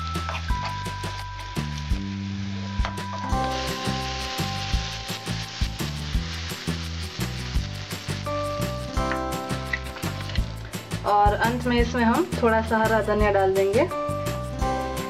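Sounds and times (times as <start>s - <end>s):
background music with steady beat: 0.0s - 15.0s
hot oil sizzling: 0.0s - 15.0s.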